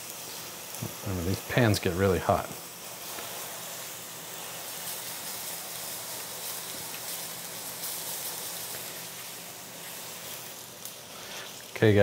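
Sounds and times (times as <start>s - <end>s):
mushrooms sizzling in a pan: 0.0s - 12.0s.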